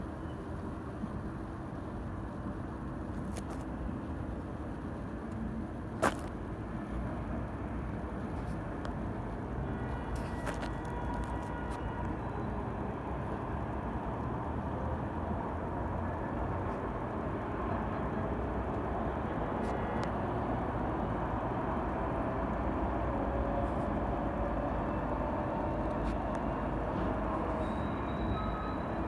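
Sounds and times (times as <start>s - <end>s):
low rumbling background noise: 0.0s - 29.0s.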